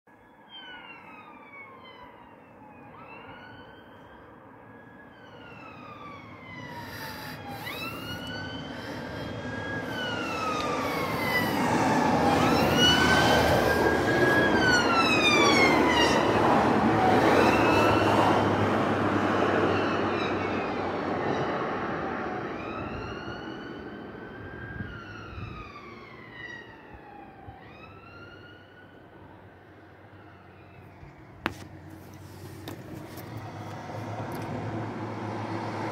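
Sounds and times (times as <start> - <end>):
sirens wailing: 0.1 - 31.4
traffic rush: 4.4 - 27.2, 28.9 - 35.9.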